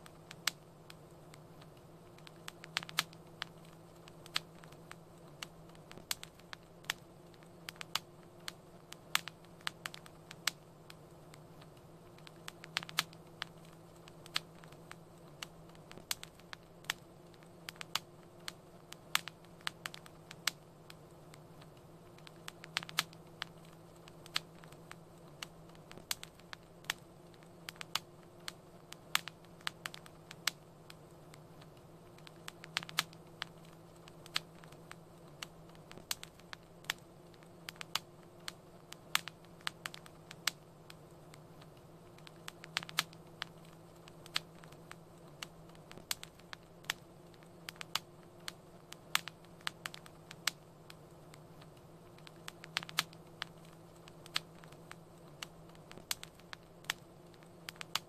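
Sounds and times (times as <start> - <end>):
fireplace fire crackling: 0.0 - 58.0
steady low hum: 0.0 - 58.0.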